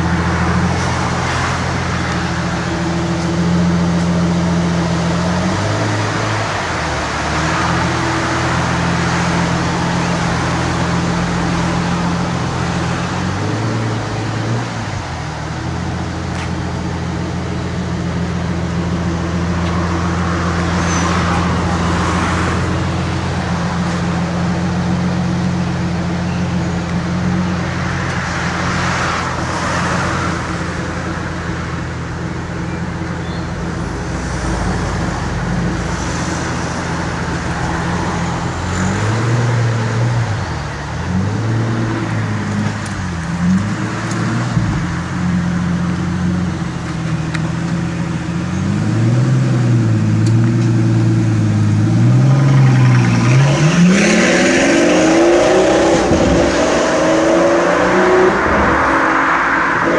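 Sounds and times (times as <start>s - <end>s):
car engine idling and accelerating: 0.0s - 59.9s.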